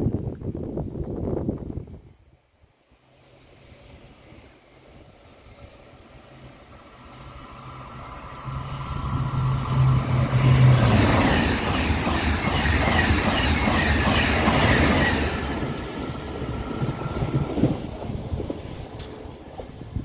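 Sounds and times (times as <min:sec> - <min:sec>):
high-speed train passing: 0:02.8 - 0:20.0.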